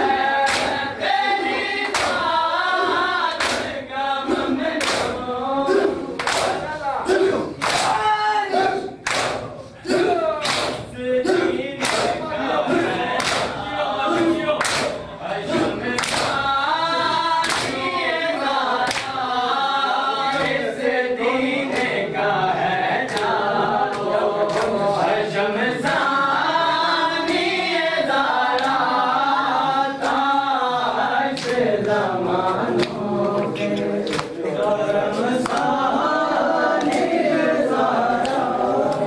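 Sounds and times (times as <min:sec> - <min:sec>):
men chanting in unison: 0:00.0 - 0:39.0.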